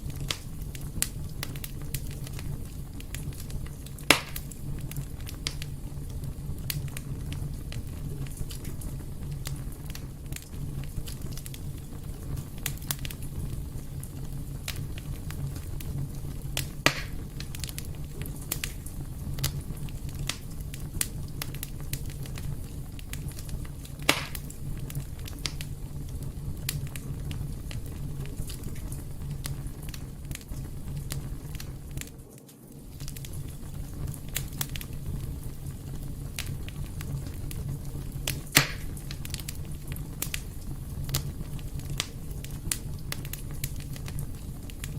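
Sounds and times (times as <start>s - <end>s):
fire crackling: 0.0s - 44.9s
fire popping: 0.0s - 44.9s
fire rumbling: 0.0s - 44.9s.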